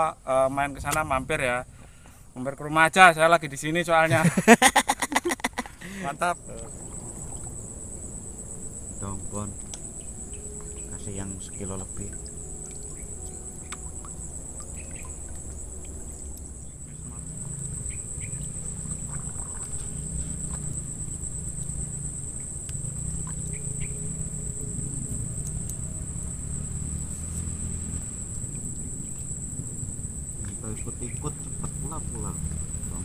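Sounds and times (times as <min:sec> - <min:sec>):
insects chirring: 0:00.0 - 0:33.0
low rumble: 0:06.2 - 0:33.0.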